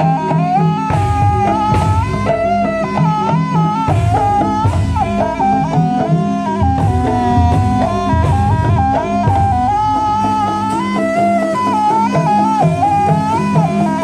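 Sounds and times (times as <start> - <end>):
drumming: 0.0 - 14.0
wind instrument melody: 0.0 - 14.0.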